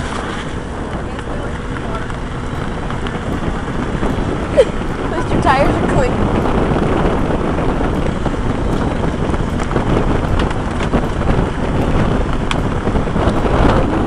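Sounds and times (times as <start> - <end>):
stones crackling under tyres: 0.0 - 13.4
car rolling low rumble: 0.0 - 14.0
wind buffeting microphone: 0.0 - 14.0.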